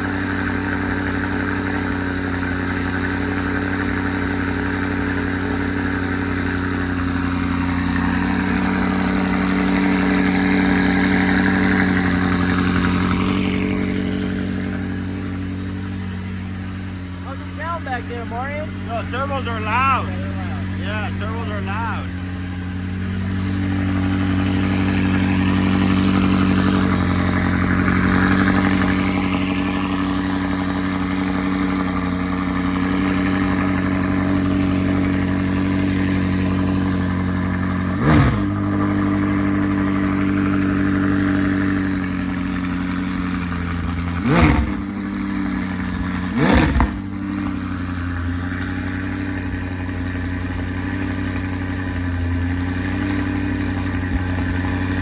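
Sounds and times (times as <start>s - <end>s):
car engine idling: 0.0s - 55.0s
engine revving blips: 0.0s - 55.0s.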